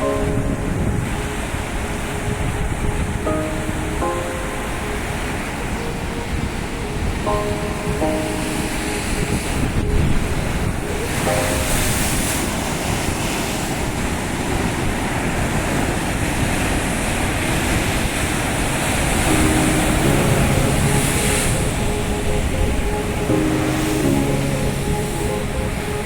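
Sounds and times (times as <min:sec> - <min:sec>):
waves breaking: 0:00.0 - 0:26.0
wind buffeting microphone: 0:00.0 - 0:26.0.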